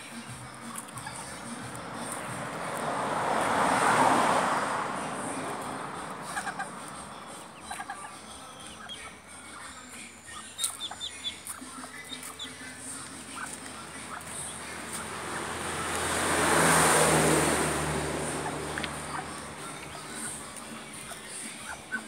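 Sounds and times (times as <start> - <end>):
vehicle passing: 0.0 - 22.0
ducklings peeping: 0.1 - 2.7, 5.3 - 16.4, 17.2 - 22.0.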